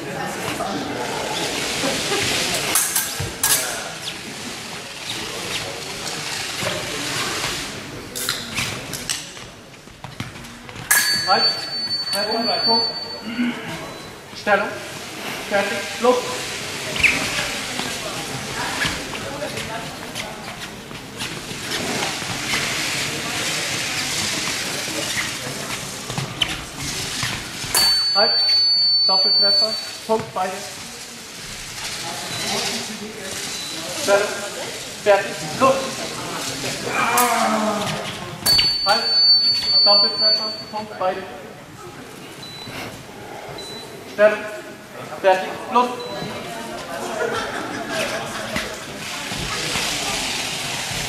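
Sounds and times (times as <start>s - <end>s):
chatter in sports hall: 0.0s - 51.0s.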